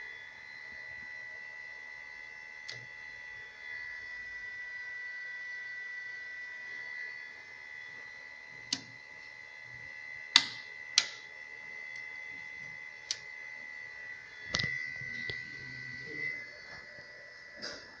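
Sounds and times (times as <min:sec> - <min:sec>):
high electrical motor whine: 0:00.0 - 0:18.0.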